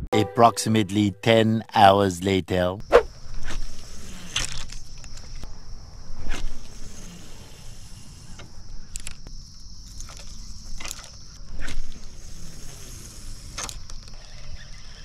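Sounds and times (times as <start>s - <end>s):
insect chorus: 2.8s - 15.0s.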